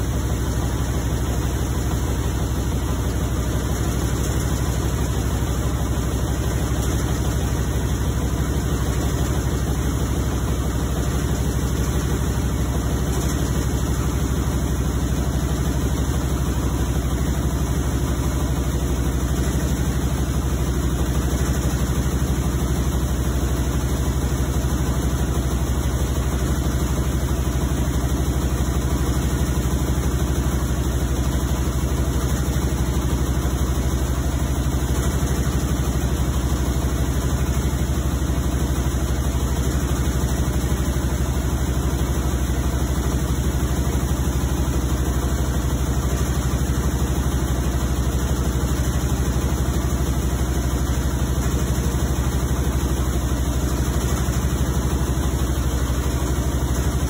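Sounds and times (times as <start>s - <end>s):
washing machine humming and rumbling: 0.0s - 57.0s.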